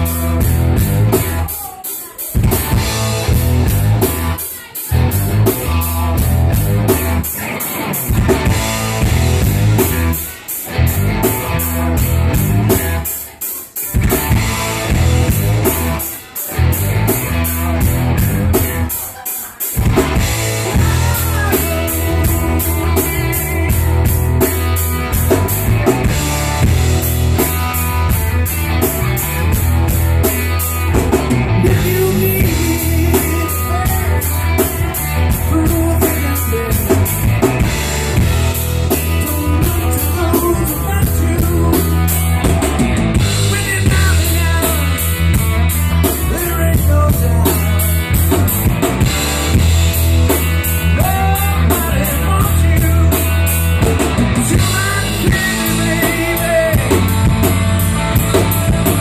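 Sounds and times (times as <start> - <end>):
electric bass: 0.0 - 1.5, 2.4 - 13.3, 13.9 - 19.0, 19.8 - 59.0
drum kit beat: 0.0 - 59.0
electric guitars: 0.0 - 59.0.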